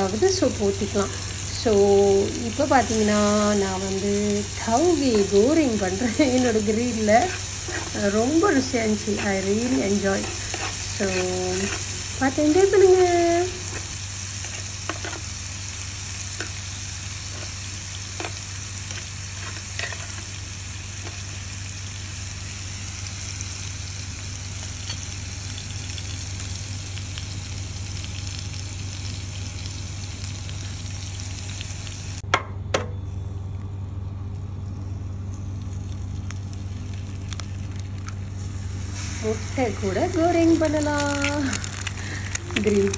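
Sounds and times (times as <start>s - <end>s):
vegetables sizzling in oil: 0.0s - 32.2s, 34.7s - 42.9s
steady low hum: 0.0s - 42.9s.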